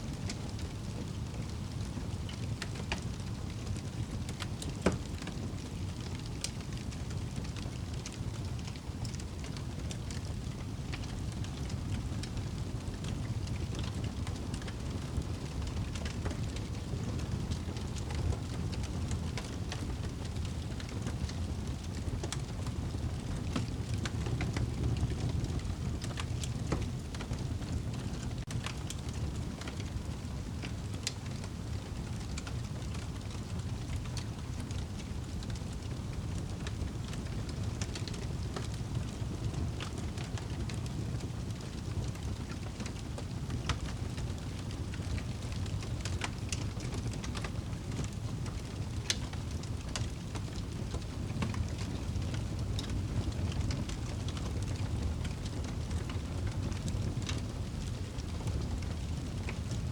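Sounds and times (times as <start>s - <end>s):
flames low rumble: 0.0s - 59.9s
burning wood crackling: 0.5s - 59.8s.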